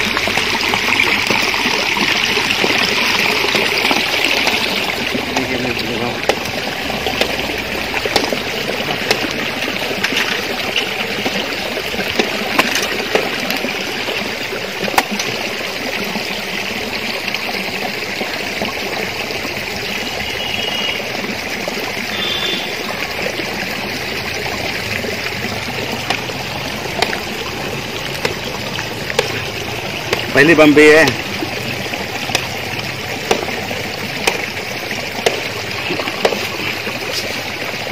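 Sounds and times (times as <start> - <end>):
stream trickling over rocks: 0.0 - 37.9.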